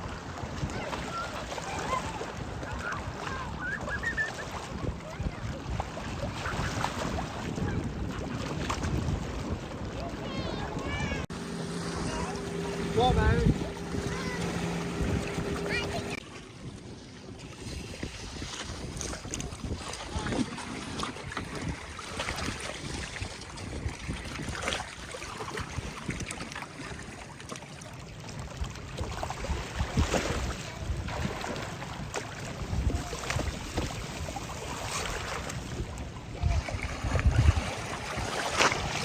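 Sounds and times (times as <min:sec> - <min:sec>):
wind buffeting microphone: 0:00.0 - 0:27.0, 0:29.0 - 0:39.0
water noise: 0:00.0 - 0:39.0.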